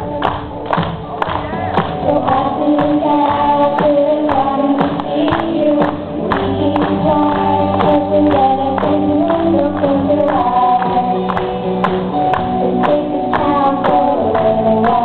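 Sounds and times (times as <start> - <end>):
girls singing pop song: 0.0 - 15.0
musical accompaniment with steady beat: 0.0 - 15.0.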